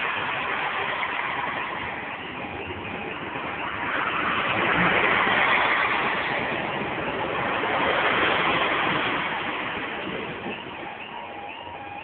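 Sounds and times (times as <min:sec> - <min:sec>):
diesel train passing: 0:00.0 - 0:12.0.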